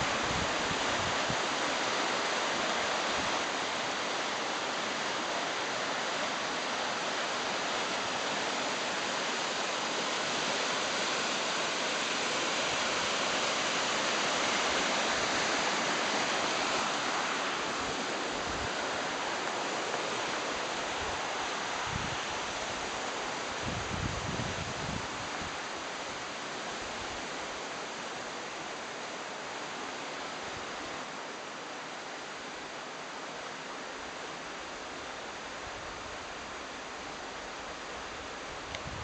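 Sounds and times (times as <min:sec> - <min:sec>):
river rushing through rapids: 0:00.0 - 0:39.0.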